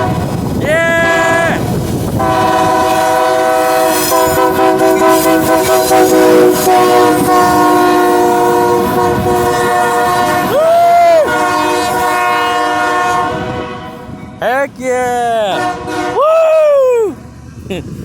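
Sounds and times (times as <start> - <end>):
locomotive air horn blast: 0.0 - 14.2, 15.4 - 16.2.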